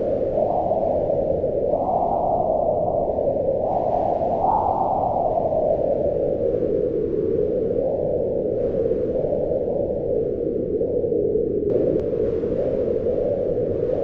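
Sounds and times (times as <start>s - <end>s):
howling wind: 0.0s - 14.0s.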